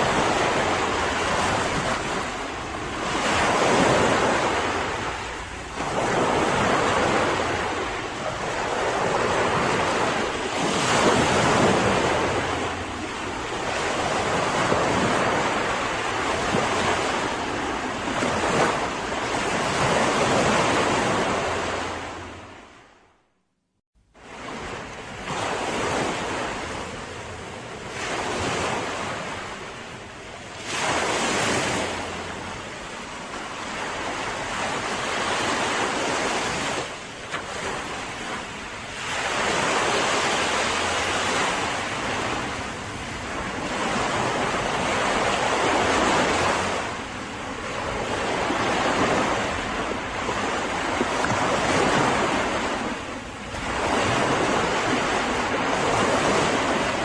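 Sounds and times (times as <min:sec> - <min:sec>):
sea waves breaking on beach: 0:00.0 - 0:23.0, 0:24.2 - 0:57.0.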